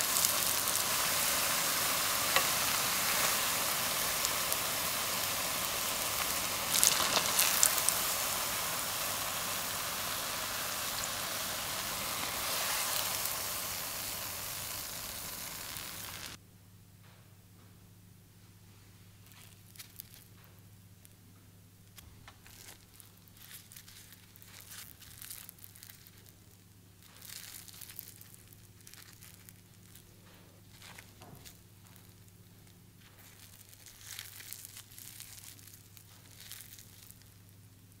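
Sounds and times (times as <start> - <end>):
crispy fritters tearing: 0.0 - 16.4, 19.3 - 20.3, 22.4 - 37.7.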